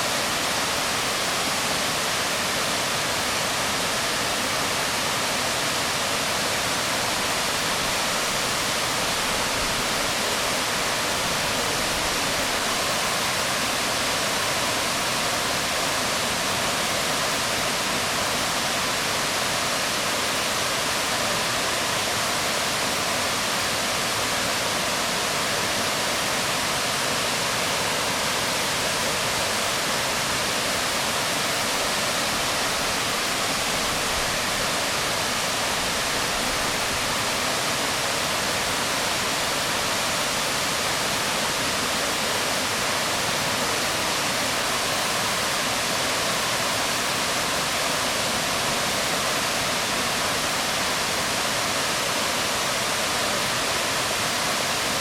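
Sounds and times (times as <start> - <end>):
waterfall rushing onto rocks: 0.0 - 55.0.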